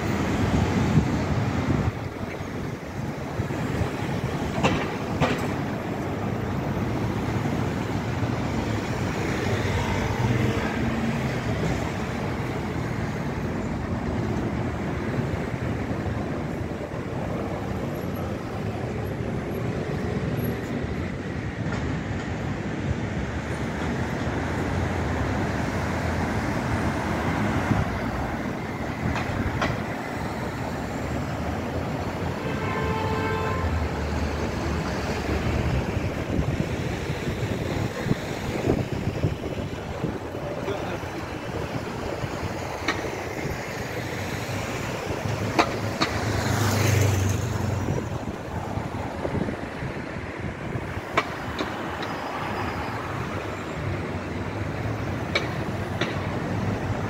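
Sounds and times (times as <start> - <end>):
cars passing on road: 0.0 - 57.0.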